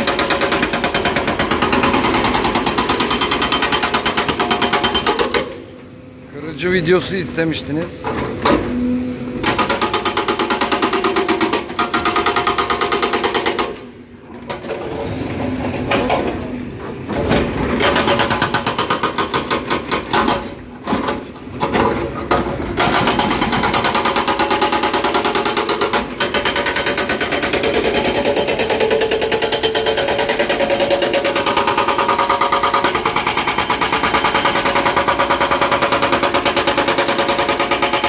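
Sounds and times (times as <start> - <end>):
hydraulic breaker hammering rock: 0.0 - 5.6, 9.4 - 15.0, 15.6 - 38.0.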